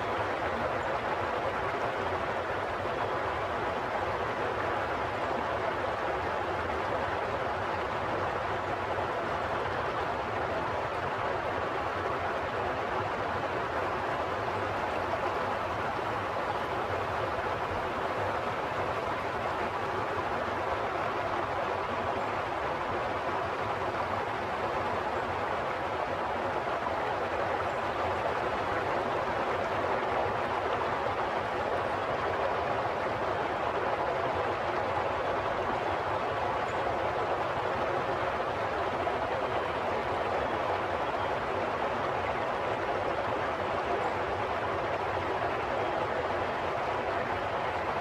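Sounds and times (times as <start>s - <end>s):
running water rushing: 0.0s - 48.0s.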